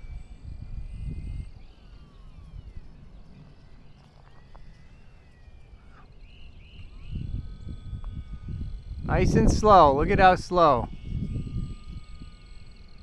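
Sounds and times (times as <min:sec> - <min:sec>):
model plane motor whine: 0:00.0 - 0:13.0
wind rumbling on microphone: 0:00.0 - 0:13.0.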